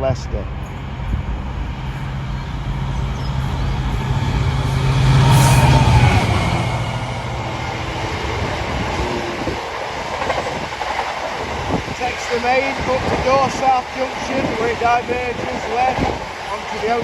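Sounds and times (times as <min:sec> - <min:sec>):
locomotive engine drone: 0:00.0 - 0:17.0
train wagons rumbling: 0:00.0 - 0:17.0.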